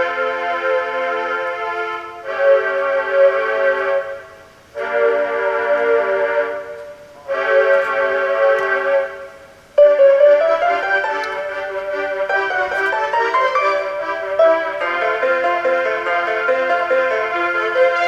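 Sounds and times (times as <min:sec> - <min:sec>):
light computer background music: 0:00.0 - 0:18.0.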